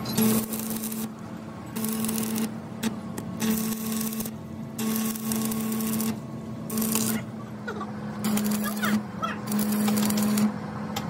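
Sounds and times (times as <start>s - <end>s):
welding arc crackling and hissing: 0.0s - 7.4s, 8.2s - 10.5s
steady hum: 0.0s - 11.0s.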